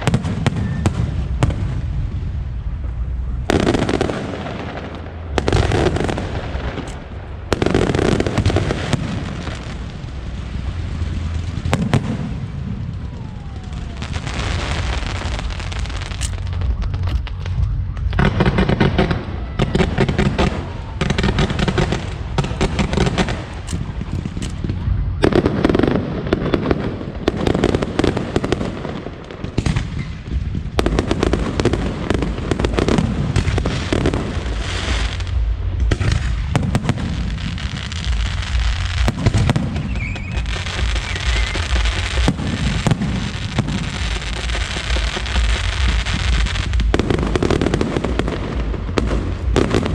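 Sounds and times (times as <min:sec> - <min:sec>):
fireworks bursting: 0:00.0 - 0:49.9
fireworks crackling: 0:00.0 - 0:49.9.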